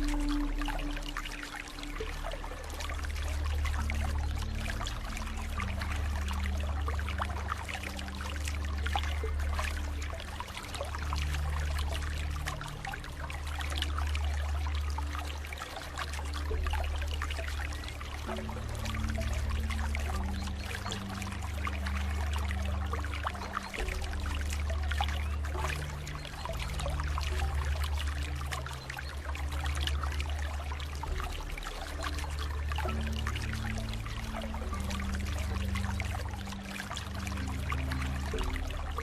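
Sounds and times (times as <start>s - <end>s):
soft low sustained music notes: 0.0s - 39.0s
water trickling and splashing: 0.0s - 39.0s.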